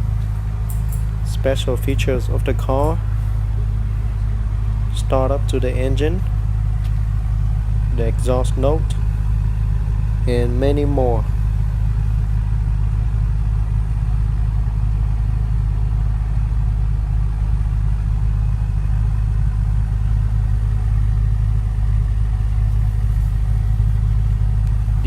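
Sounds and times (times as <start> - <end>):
steady low drone: 0.0 - 25.0.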